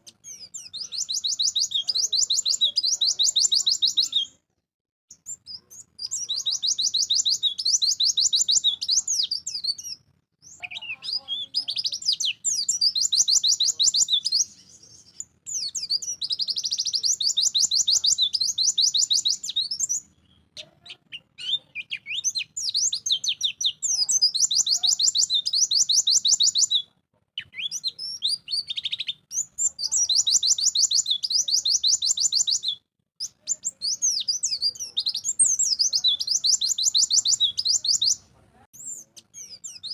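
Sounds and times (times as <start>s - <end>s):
bird singing rapid trills: 0.0s - 4.4s, 5.1s - 26.8s, 27.4s - 38.2s, 38.8s - 39.9s.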